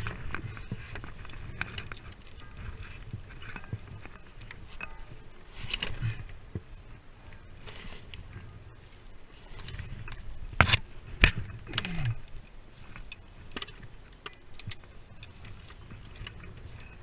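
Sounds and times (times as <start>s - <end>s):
metal climbing gear clinking: 0.0s - 17.0s.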